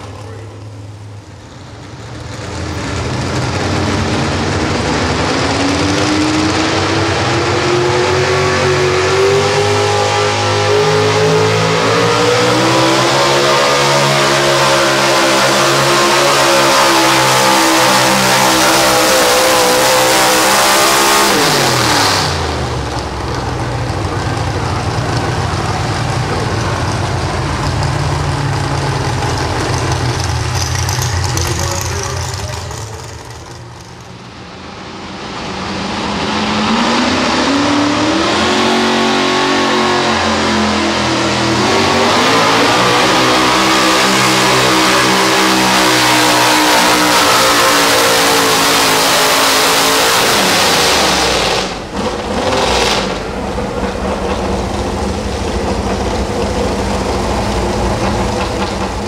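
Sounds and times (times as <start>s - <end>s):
truck engine revving under load: 0.0s - 34.2s, 35.2s - 59.0s.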